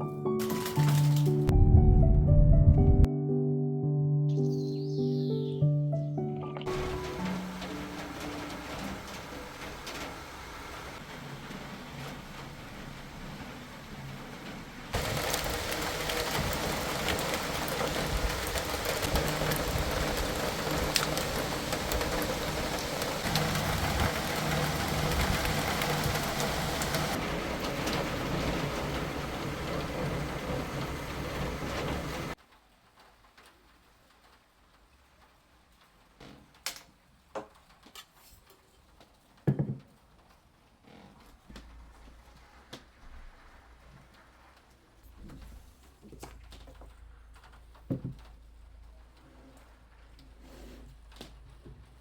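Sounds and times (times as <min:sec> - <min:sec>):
steady rain pattering: 0:00.3 - 0:02.2, 0:06.6 - 0:52.0.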